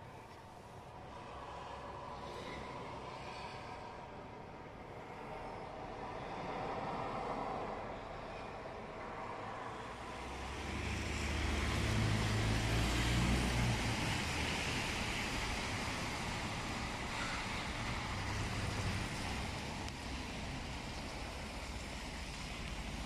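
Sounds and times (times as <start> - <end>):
street rushing noise with rumble: 0.0 - 23.0.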